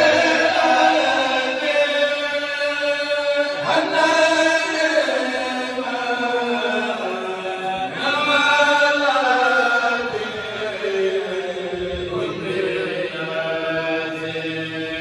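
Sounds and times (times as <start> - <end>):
men chanting into microphones: 0.0 - 15.0.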